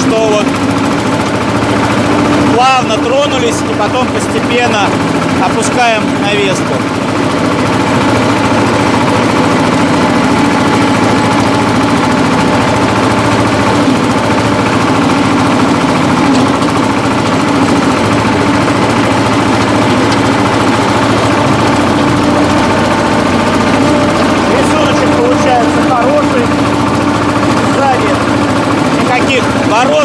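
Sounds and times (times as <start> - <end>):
rotary tiller churning soil: 0.0 - 30.0
tractor engine running: 0.0 - 30.0.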